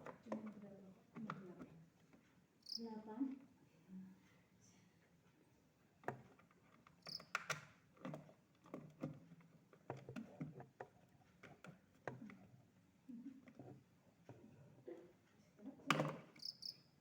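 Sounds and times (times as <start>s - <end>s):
faint clicks and knocks: 0.0s - 2.4s, 5.0s - 16.5s.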